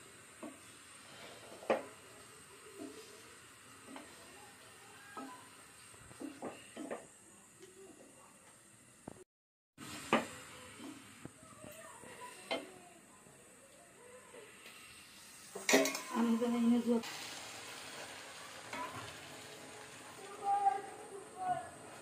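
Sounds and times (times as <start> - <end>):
food sizzling in a pot: 0.0 - 9.2, 9.8 - 22.0.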